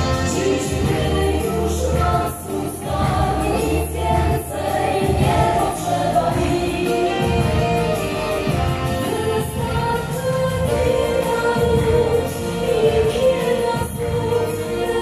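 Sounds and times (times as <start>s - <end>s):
woman singing into microphone: 0.0s - 8.0s, 9.0s - 15.0s
band accompaniment: 0.0s - 15.0s.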